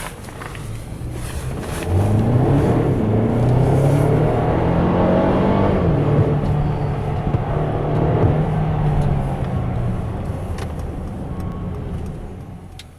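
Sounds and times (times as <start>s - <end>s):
car engine pulling at speed: 0.0s - 12.9s
road noise: 0.0s - 12.9s.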